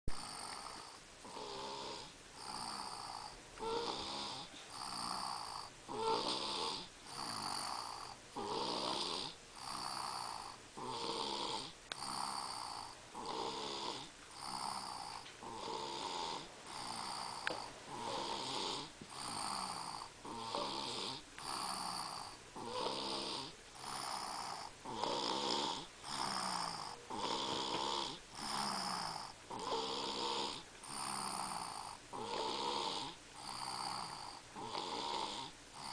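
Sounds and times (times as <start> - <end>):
person snoring heavily: 0.1 - 35.9.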